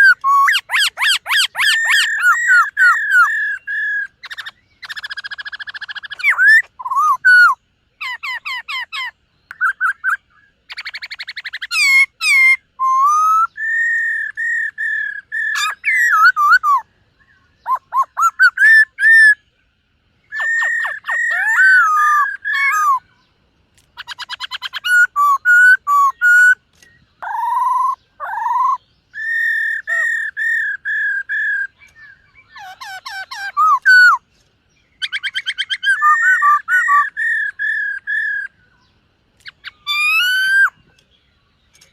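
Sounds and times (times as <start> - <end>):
bird singing whistled notes and trills: 0.0 - 41.9.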